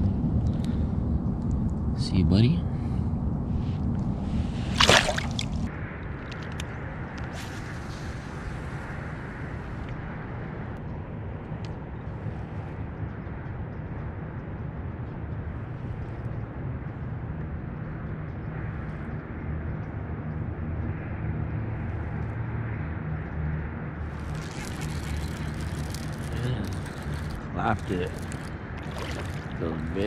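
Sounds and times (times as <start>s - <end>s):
distant motor traffic rumble: 0.0s - 30.0s.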